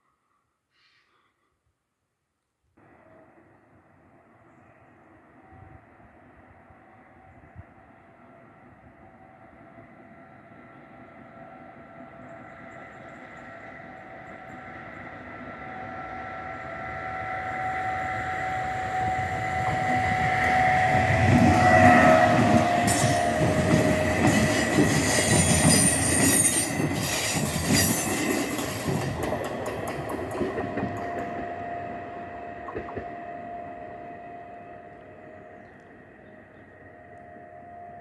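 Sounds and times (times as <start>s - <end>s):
train passing: 2.8s - 38.0s.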